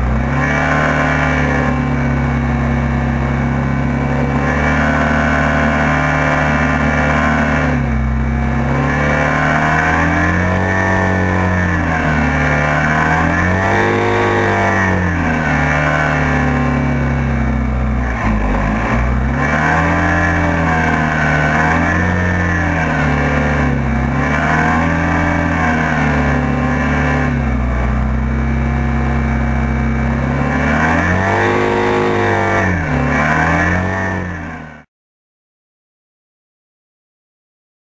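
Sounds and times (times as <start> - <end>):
hovercraft engine running: 0.0 - 34.5.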